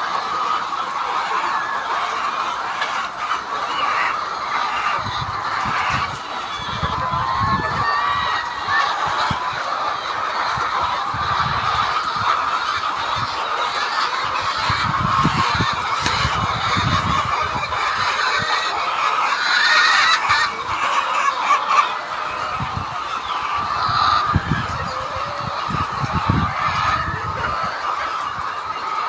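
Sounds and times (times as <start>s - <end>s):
flock of poultry calling: 0.0s - 29.0s.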